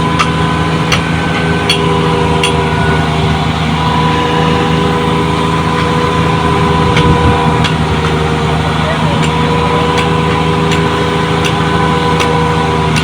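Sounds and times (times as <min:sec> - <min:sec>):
heavy truck engine running: 0:00.0 - 0:13.0
steady whine: 0:00.0 - 0:13.0.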